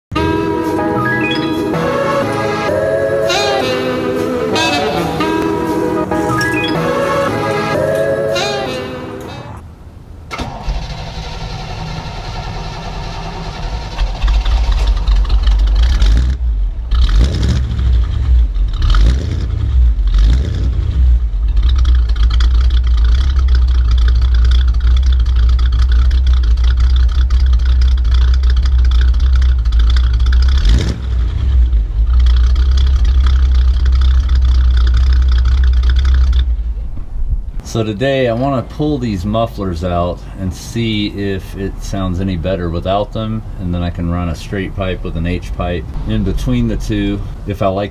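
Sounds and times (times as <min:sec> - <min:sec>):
car engine starting and revving: 0:00.1 - 0:47.9.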